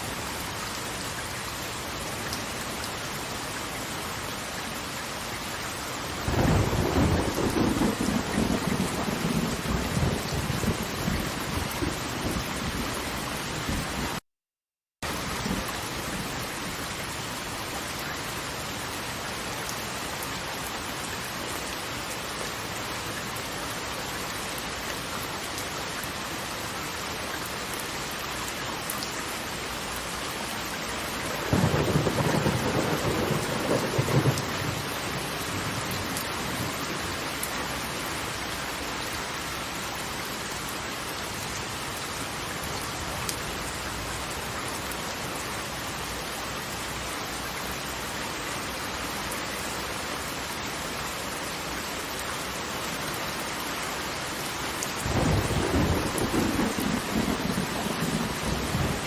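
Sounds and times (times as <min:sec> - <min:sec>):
rushing water: 0:00.0 - 0:14.2, 0:15.0 - 0:59.0.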